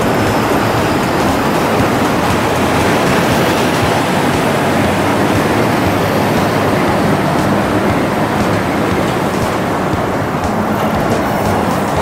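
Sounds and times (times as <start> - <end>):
road traffic: 0.0 - 12.0
tram running on street track: 0.0 - 12.0.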